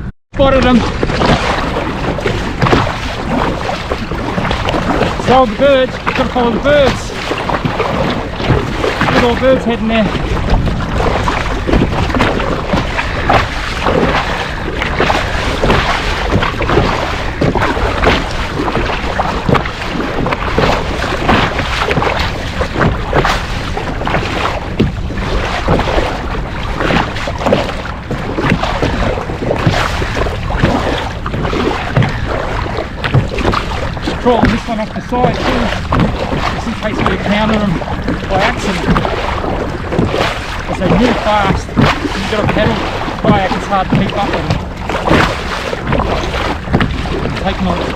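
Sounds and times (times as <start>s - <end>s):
water splashing around kayak: 0.0s - 47.9s
wind buffeting microphone: 0.0s - 47.9s.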